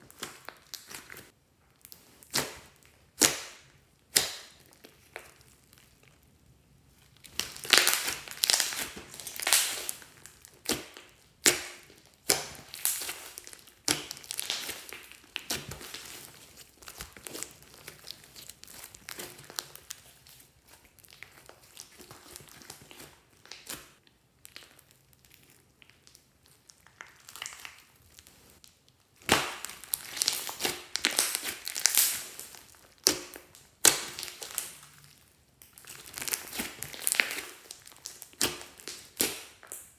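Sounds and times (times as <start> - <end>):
slime squishing and popping: 0.1 - 6.2, 7.2 - 39.9.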